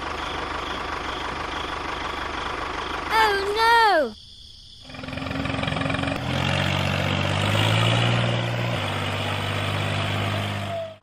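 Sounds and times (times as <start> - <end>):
tractor engine running: 0.0 - 3.9, 4.8 - 11.0.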